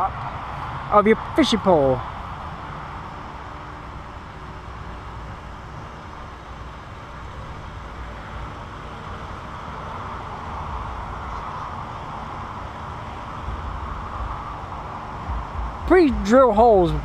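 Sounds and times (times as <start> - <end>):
outdoor ambient rumble and hiss: 0.0 - 17.0.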